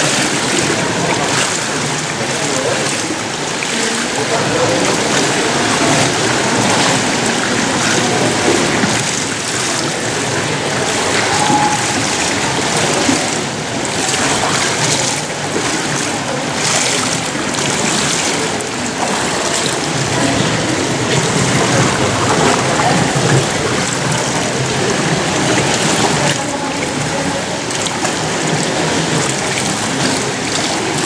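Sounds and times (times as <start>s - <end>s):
water splashing in pool: 0.0s - 31.0s.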